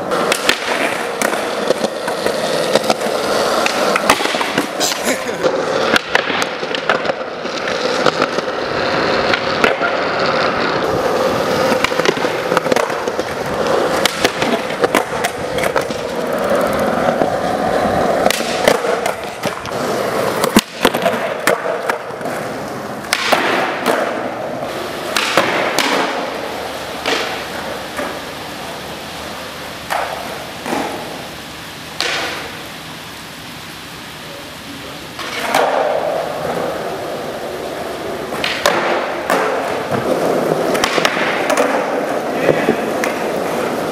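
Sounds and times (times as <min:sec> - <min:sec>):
skateboard pops grinds and landings: 0:00.0 - 0:31.3, 0:31.9 - 0:32.7, 0:35.2 - 0:43.9
skateboard clacks: 0:00.0 - 0:33.0, 0:34.8 - 0:43.9
skateboard wheels rolling on concrete: 0:00.0 - 0:43.9.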